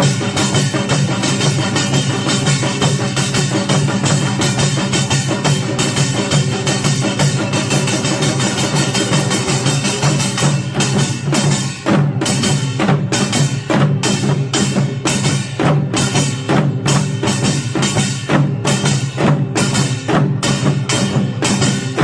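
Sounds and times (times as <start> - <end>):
percussion ensemble driving rhythm: 0.0 - 22.0.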